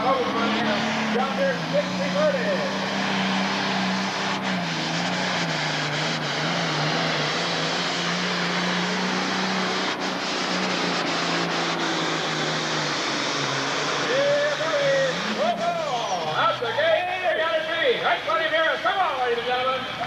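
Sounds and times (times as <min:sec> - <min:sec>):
diesel engine running hard: 0:00.0 - 0:20.0.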